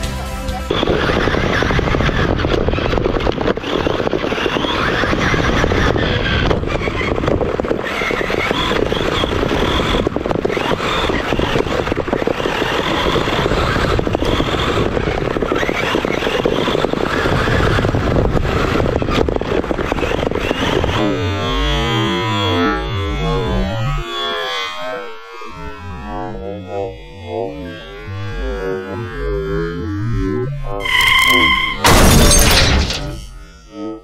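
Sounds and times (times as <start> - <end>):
electric motor whining: 0.7 - 34.0.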